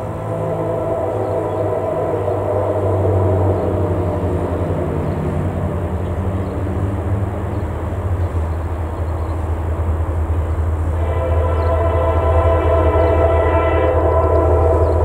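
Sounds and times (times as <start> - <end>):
diesel locomotive engine drone: 0.0 - 15.0
train rumbling on rails: 0.0 - 15.0.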